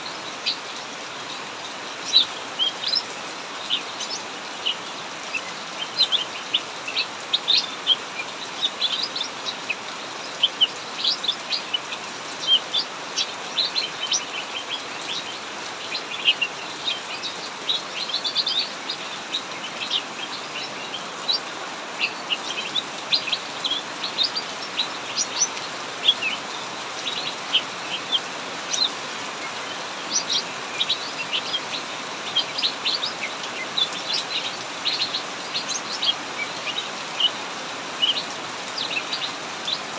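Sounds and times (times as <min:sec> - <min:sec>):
heavy rain hissing: 0:00.0 - 0:39.9
small songbirds chirping: 0:00.0 - 0:39.9.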